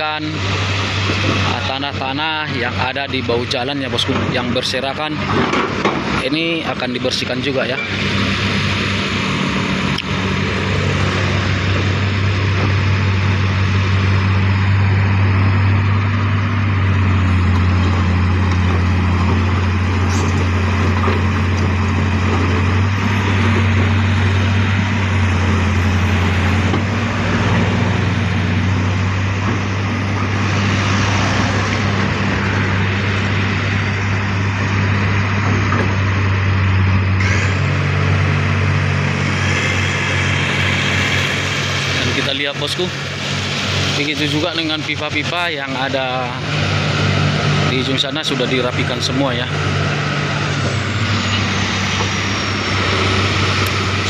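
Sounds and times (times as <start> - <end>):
diesel engine droning: 0.0 - 54.0
rushing noise: 0.0 - 54.0.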